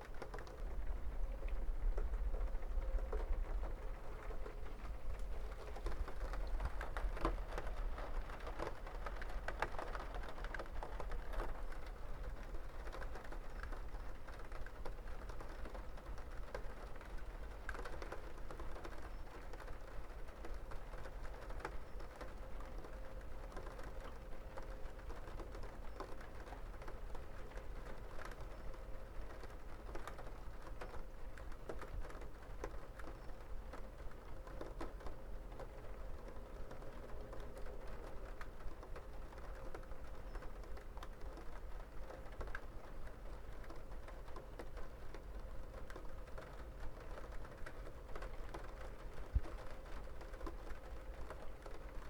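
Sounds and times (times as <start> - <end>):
rain drops tapping: 0.0 - 52.0
steady rain patter: 0.0 - 52.0.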